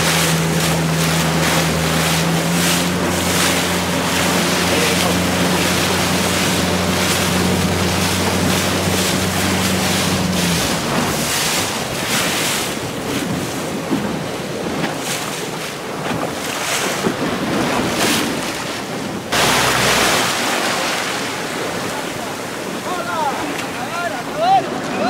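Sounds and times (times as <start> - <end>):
wind buffeting microphone: 0.0 - 23.6
waves splashing and rushing: 0.0 - 25.0.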